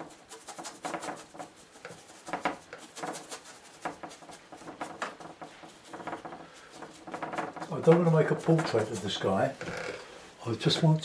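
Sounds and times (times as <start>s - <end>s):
brush scrubbing paint on board: 0.0s - 11.0s.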